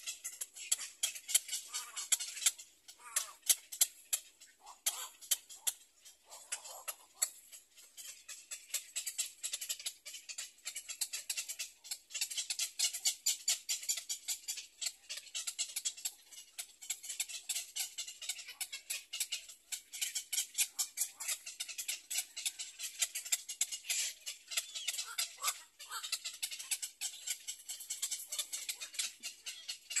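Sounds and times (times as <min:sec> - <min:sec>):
heron chicks chattering: 0:00.0 - 0:30.0.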